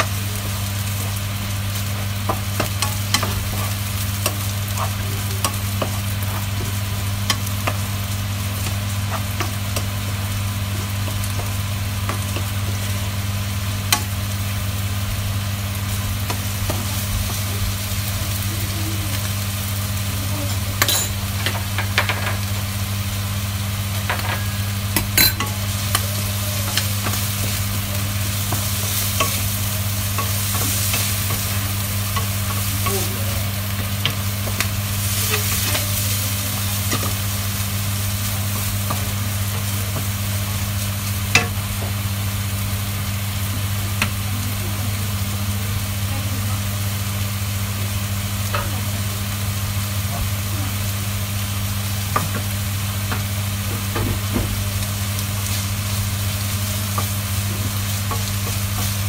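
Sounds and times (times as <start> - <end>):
chicken sizzling in frying pan: 0.0 - 59.0
steady low hum: 0.0 - 59.0.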